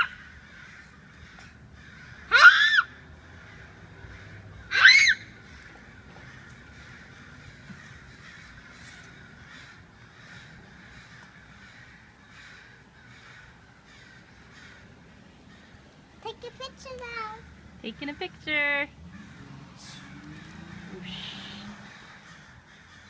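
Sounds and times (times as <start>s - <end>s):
crows cawing: 0.0s - 18.4s, 19.0s - 23.0s.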